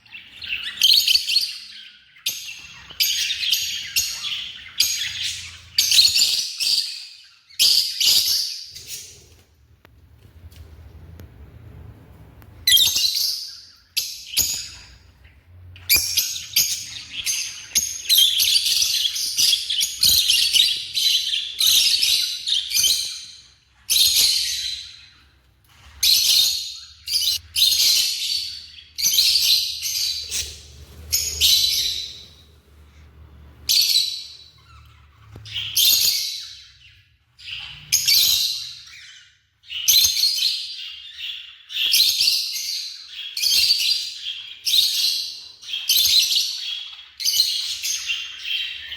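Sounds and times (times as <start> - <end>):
lovebirds chirping shrilly: 0.0 - 9.5, 12.6 - 48.9.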